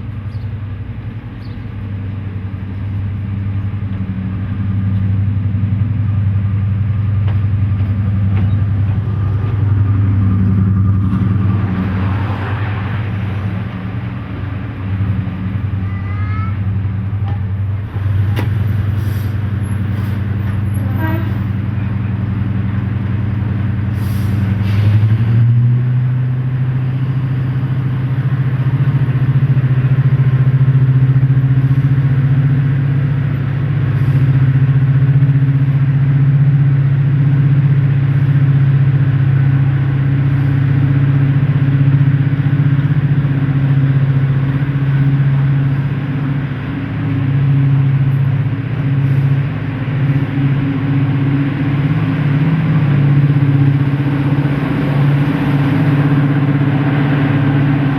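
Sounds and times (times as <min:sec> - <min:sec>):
diesel locomotive engines droning: 0:00.0 - 0:57.9.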